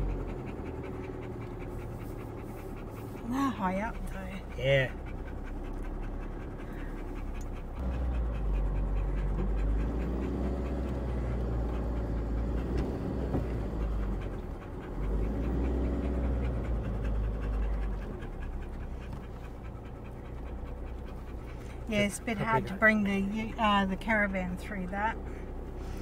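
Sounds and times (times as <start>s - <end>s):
engine deep rumble: 0.0s - 26.0s.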